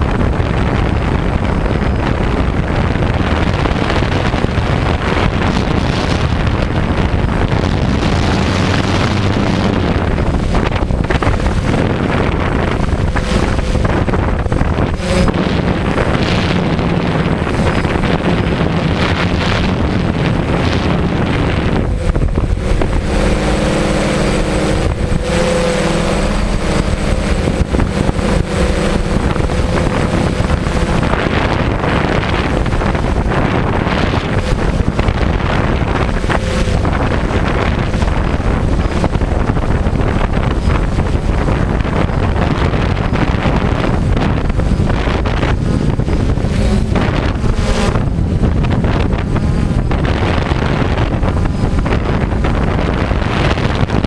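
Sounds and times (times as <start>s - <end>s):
drone propellers whirring: 0.0s - 54.0s
wind on microphone: 0.0s - 54.0s.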